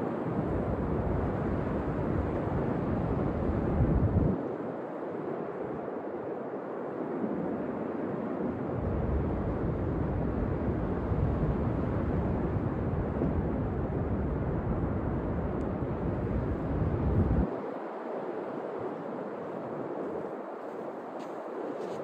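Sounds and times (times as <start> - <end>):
wind buffeting microphone: 0.0 - 4.8, 7.5 - 22.0.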